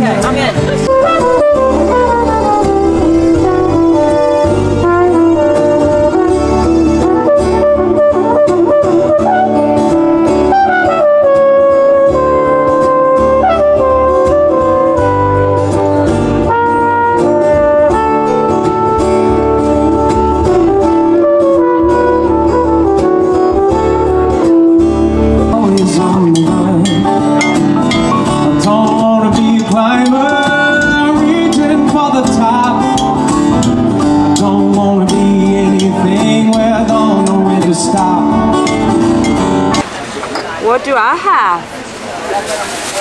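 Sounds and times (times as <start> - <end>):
jazz band playing: 0.0 - 43.0
brass horn melody: 0.4 - 39.8.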